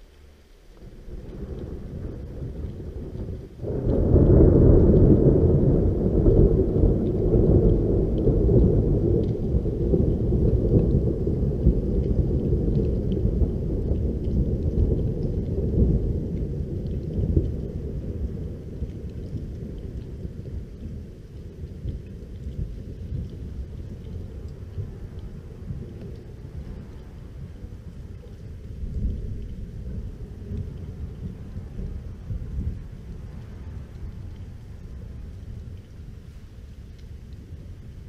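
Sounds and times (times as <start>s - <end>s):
thunder clap and rumble: 0.8s - 38.0s.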